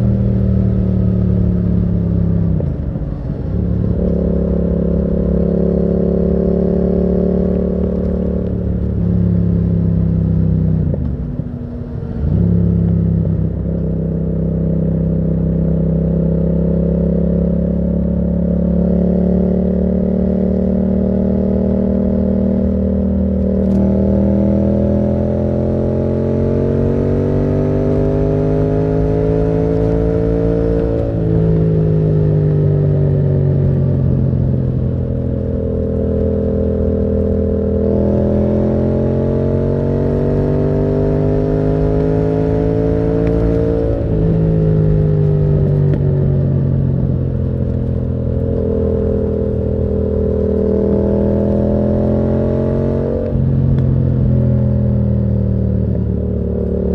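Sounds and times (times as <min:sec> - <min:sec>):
motorcycle engine under way: 0:00.0 - 0:56.9.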